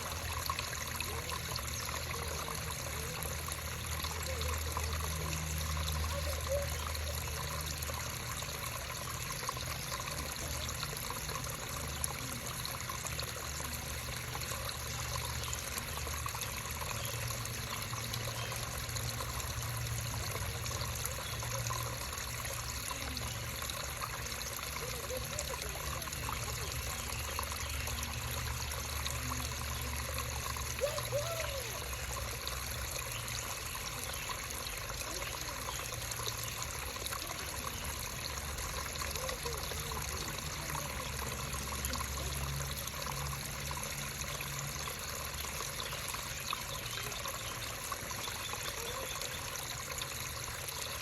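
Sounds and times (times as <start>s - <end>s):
creek water babbling: 0.0s - 51.0s.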